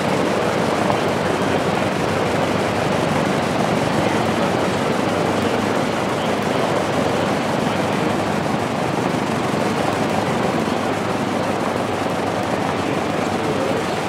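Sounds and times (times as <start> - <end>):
propeller aircraft engines running: 0.0 - 14.0.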